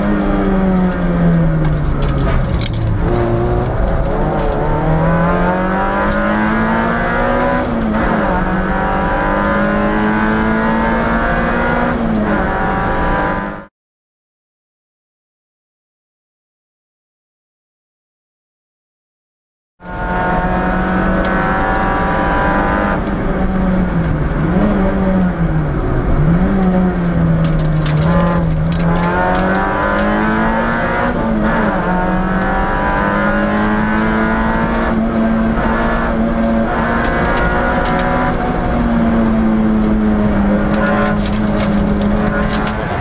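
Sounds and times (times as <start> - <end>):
rally car engine at high revs: 0.0 - 13.7, 19.8 - 43.0.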